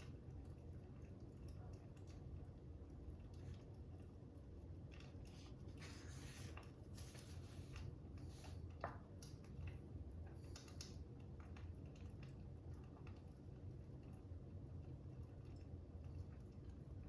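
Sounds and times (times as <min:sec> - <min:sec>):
fire crackling softly: 0:00.0 - 0:17.0
low steady hum: 0:00.0 - 0:17.0.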